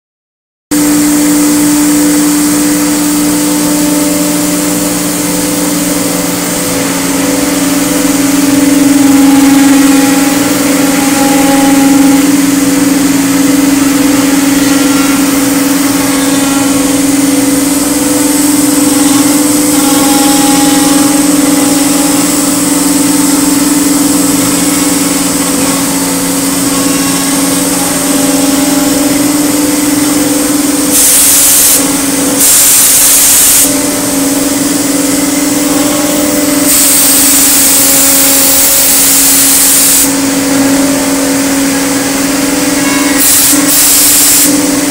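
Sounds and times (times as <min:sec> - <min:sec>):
router machine hum: 0:00.7 - 0:44.9.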